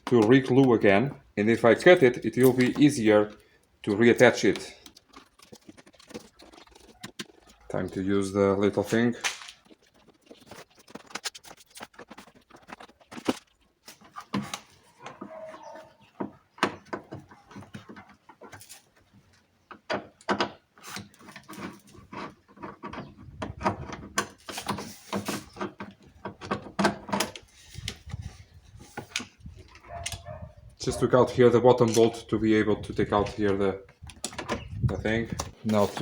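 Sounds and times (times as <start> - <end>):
hand tools clicking and scraping: 0.0 - 36.0.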